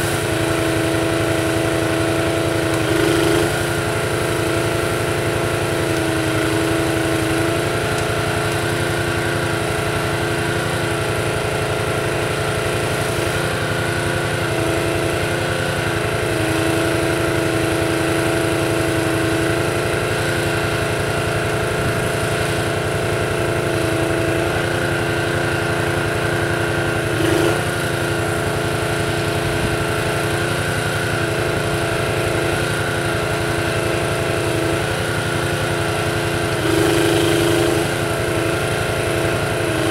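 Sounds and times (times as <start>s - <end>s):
small engine running under load: 0.0s - 39.9s.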